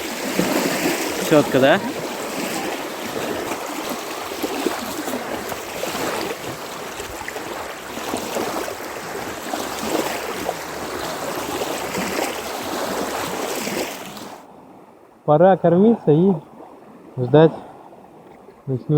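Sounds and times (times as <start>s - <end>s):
small waves lapping on shore: 0.0s - 18.9s
wind: 0.0s - 18.9s
wind-driven water rushing: 0.0s - 18.9s.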